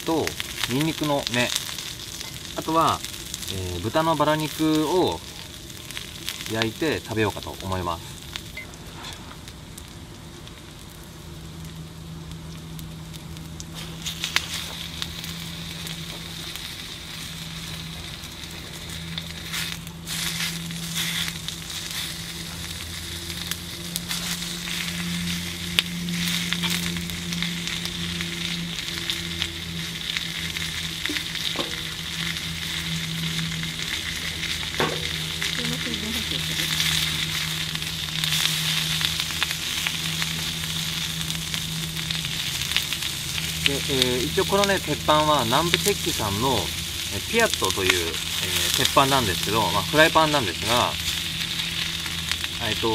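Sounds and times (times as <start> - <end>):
pork sizzling on a griddle: 0.0 - 52.9
steady low hum: 0.0 - 52.9.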